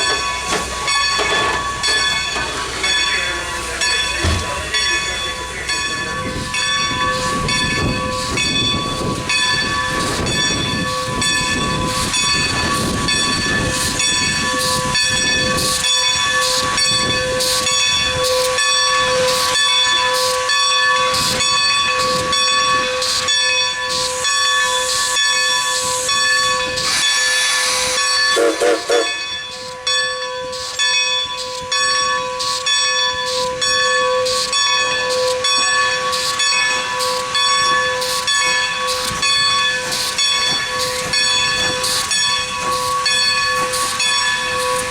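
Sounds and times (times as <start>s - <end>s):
steam hissing: 0.0s - 29.8s, 34.2s - 44.9s
steam locomotive exhaust beats: 0.0s - 44.9s.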